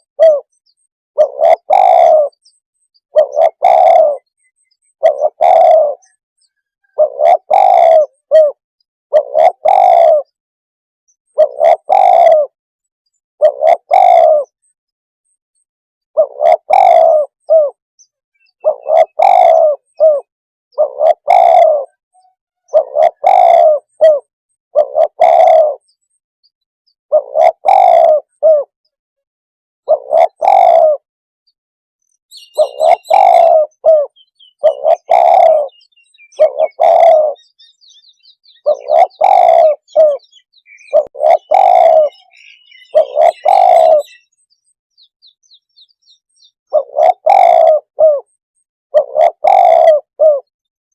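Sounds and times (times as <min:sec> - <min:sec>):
dove cooing: 0:00.0 - 0:00.6, 0:01.2 - 0:10.4, 0:11.3 - 0:12.6, 0:13.4 - 0:14.6, 0:16.2 - 0:17.8, 0:18.4 - 0:26.0, 0:27.1 - 0:28.8, 0:29.8 - 0:31.0, 0:32.3 - 0:44.6, 0:46.1 - 0:50.5
small birds chirping: 0:00.0 - 0:10.4, 0:11.1 - 0:29.0, 0:29.8 - 0:31.0, 0:32.0 - 0:50.7.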